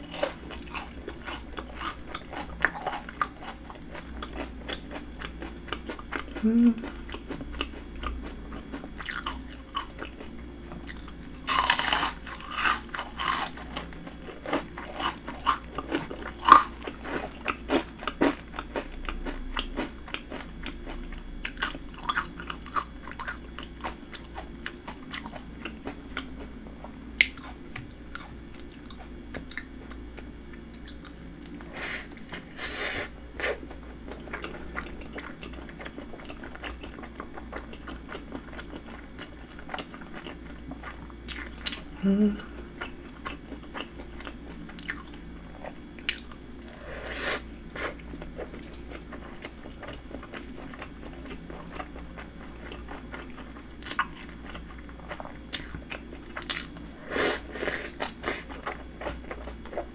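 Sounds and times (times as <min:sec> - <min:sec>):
crunching fried shrimp: 0:00.0 - 0:59.9
soft chewing: 0:00.0 - 0:59.9.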